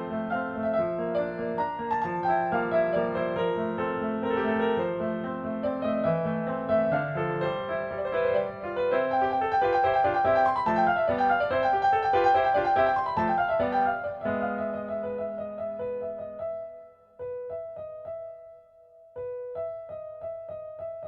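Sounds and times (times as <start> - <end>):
piano melody: 0.0 - 21.0.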